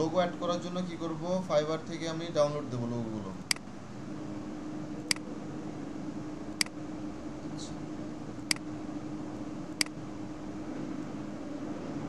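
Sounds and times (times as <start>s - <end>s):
low hum and fan noise: 0.0s - 12.0s.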